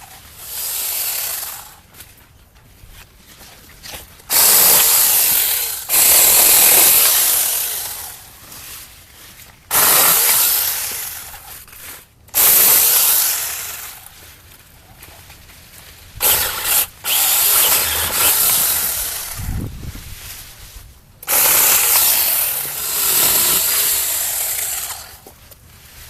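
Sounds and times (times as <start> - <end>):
mini chainsaw cutting branches: 0.0 - 2.2, 3.8 - 8.9, 9.7 - 15.1, 15.9 - 20.6, 21.2 - 25.6.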